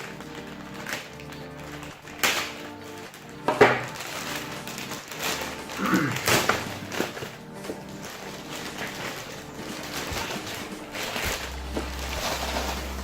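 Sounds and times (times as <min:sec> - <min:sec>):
background music with bass: 0:00.0 - 0:13.0
packaging rustling and tearing: 0:00.0 - 0:13.0.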